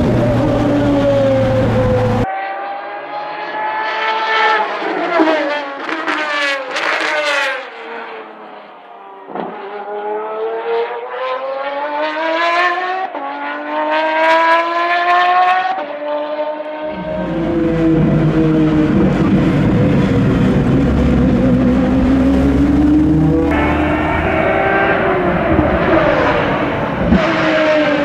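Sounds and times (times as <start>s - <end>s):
racing car engine at high revs: 0.0s - 28.0s.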